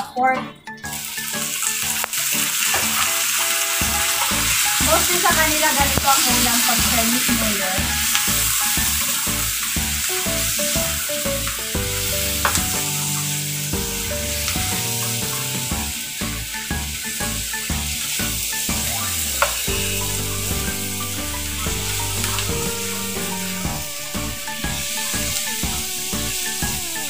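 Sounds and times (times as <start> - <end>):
music: 0.0 - 27.0
meat and onion sizzling in a wok: 0.9 - 27.0.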